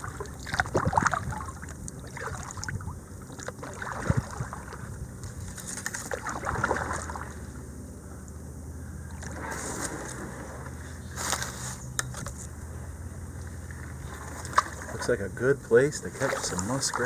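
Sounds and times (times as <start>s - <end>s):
paddle splashing water: 0.0s - 7.6s, 9.1s - 11.8s, 13.2s - 17.0s
low hum: 0.0s - 16.6s.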